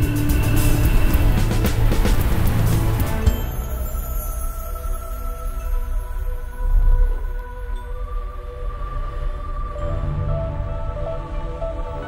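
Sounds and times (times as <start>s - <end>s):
film score sustained tones: 0.0s - 12.0s.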